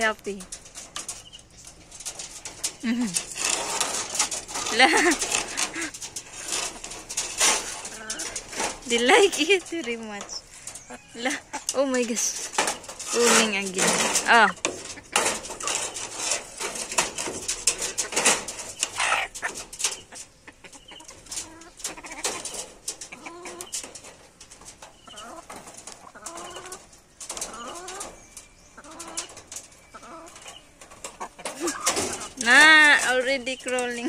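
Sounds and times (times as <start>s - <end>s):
beaks tapping: 0.0s - 34.0s
chickens clucking: 0.0s - 34.0s.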